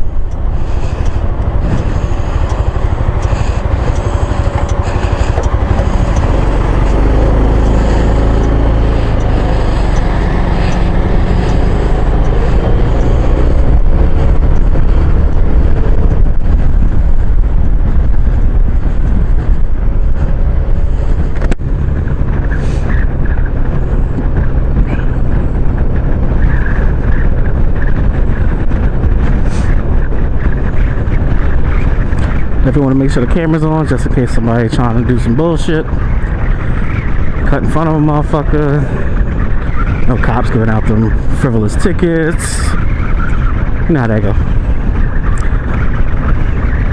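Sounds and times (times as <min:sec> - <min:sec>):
scooter engine running: 0:00.0 - 0:46.9
wind rush on camera: 0:00.0 - 0:46.9.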